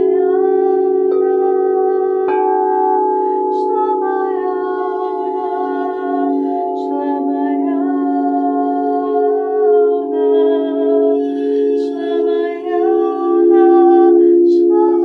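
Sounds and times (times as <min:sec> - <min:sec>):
singing bowls ringing: 0:00.0 - 0:15.0
woman humming: 0:00.0 - 0:15.0.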